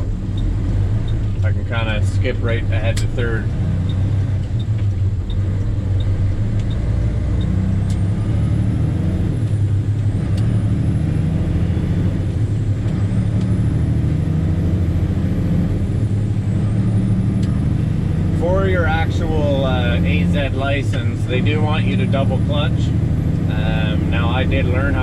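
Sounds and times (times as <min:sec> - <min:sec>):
truck diesel engine accelerating: 0:00.0 - 0:25.0.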